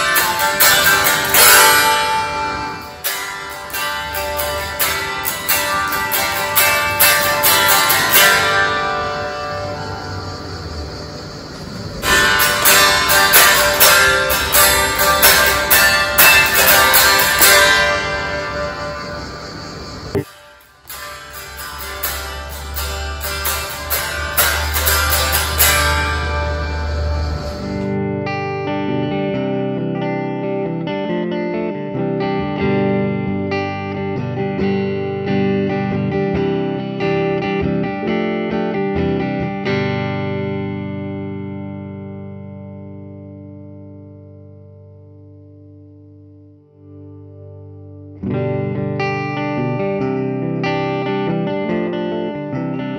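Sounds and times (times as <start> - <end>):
unplugged electric guitar strummed chords: 0.0 - 52.9.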